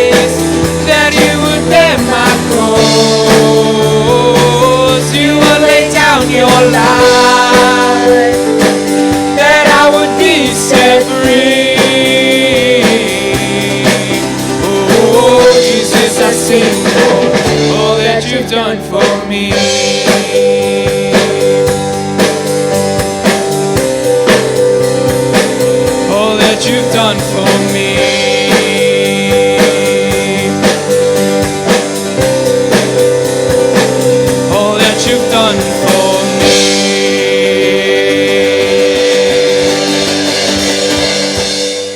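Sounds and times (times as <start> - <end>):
worship band playing: 0.0 - 41.9.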